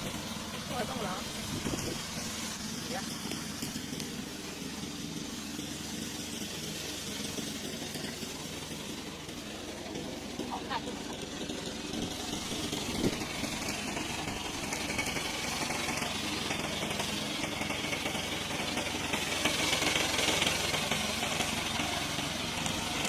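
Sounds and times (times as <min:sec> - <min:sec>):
lawn mower engine running: 0:00.0 - 0:23.0.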